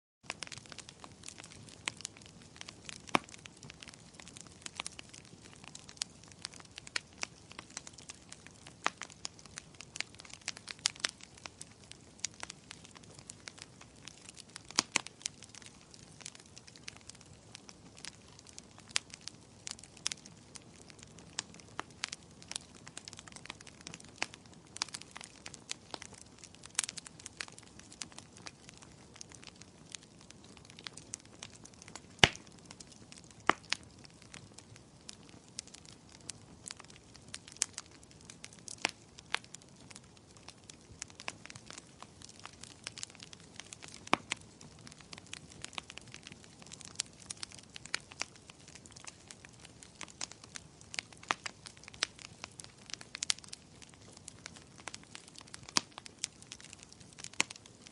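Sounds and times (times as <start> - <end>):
firewood crackling and popping: 0.2 - 57.9.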